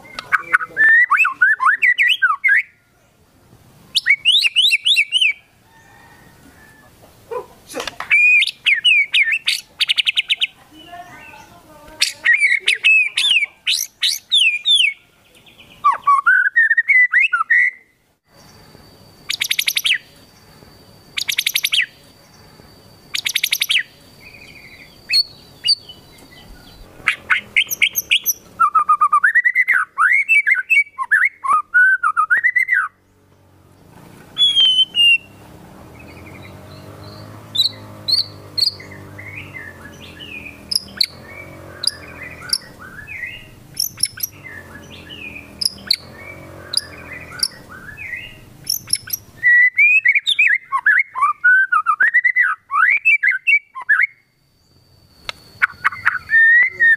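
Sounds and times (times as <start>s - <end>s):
songbird whistling song: 0.0s - 3.1s, 3.9s - 33.0s, 34.3s - 56.9s
rapid bird trills: 3.9s - 56.9s.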